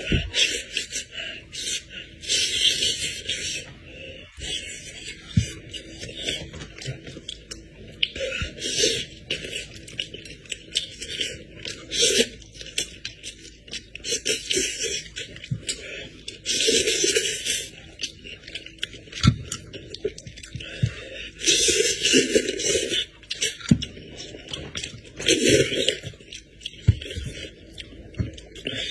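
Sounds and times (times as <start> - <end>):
person chewing and smacking: 0.0 - 28.9.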